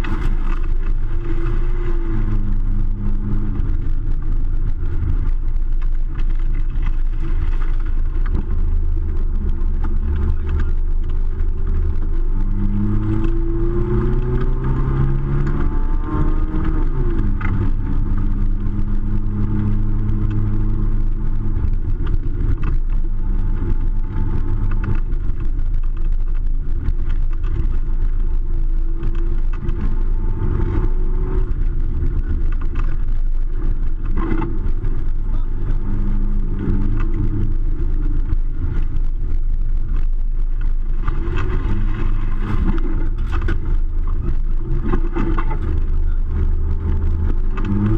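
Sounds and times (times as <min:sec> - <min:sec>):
vehicle engine revving under load: 0:00.0 - 0:47.9.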